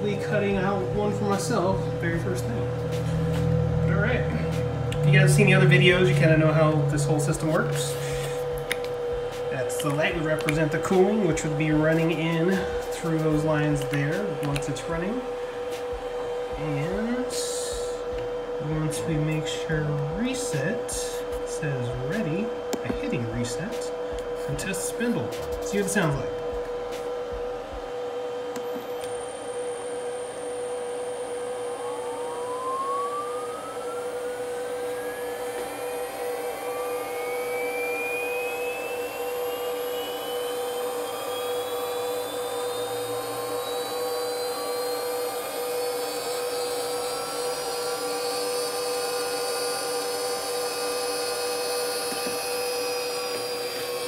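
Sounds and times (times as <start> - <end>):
high steady tone: 0.0 - 54.0
spindle whine rising in pitch: 0.0 - 54.0
steady hum: 0.0 - 54.0.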